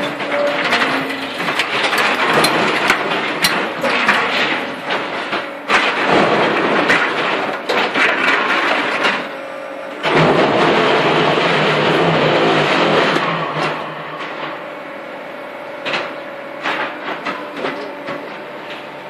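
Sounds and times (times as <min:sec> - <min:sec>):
paving block machine rattling: 0:00.0 - 0:19.0.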